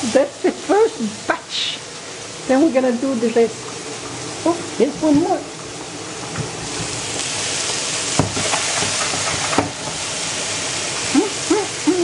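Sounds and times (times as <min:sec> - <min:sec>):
meatballs sizzling in a pan: 0:00.0 - 0:12.0.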